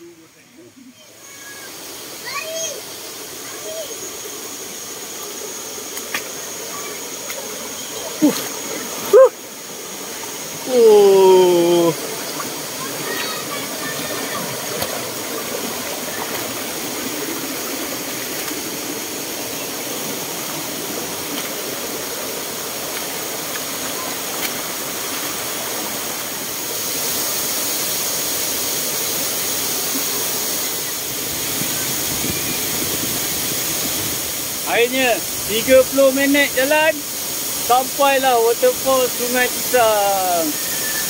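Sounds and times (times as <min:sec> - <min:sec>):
waterfall and stream rushing: 0:00.0 - 0:41.0.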